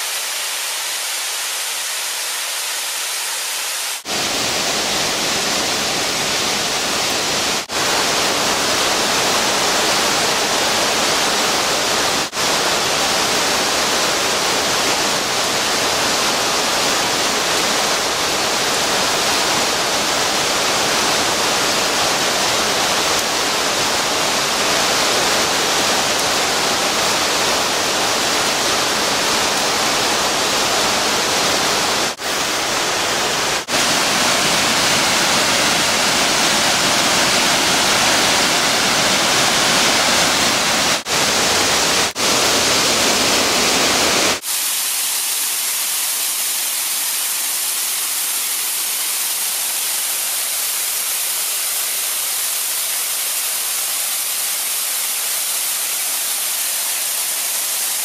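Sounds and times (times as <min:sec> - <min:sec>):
rushing torrent and waterfall: 0:00.0 - 0:58.0.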